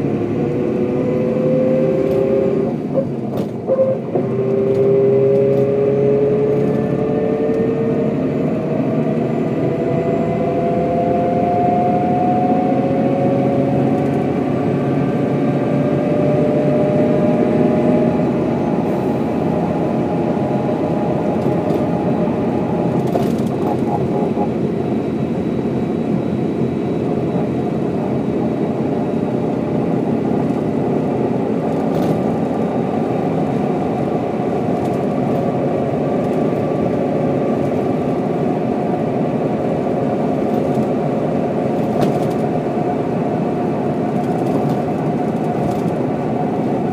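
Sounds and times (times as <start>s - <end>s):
bus diesel engine drone: 0.0s - 46.9s
rising drivetrain whine: 0.0s - 46.9s.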